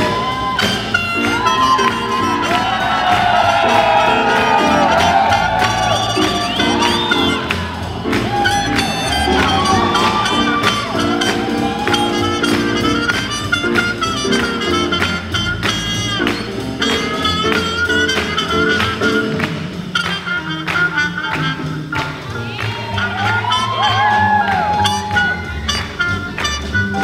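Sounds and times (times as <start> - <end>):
jazz band playing swing: 0.0 - 27.0.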